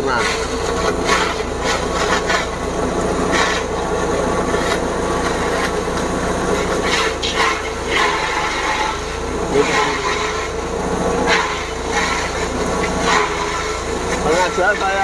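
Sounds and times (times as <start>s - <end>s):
crackling cuts of cane in blades: 0.0s - 2.6s, 3.3s - 3.7s, 4.5s - 10.7s, 11.3s - 15.0s
engine drone: 0.0s - 15.0s.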